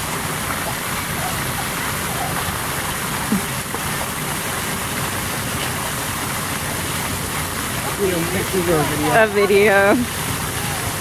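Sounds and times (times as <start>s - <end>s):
fountain jets spraying water: 0.0s - 11.0s.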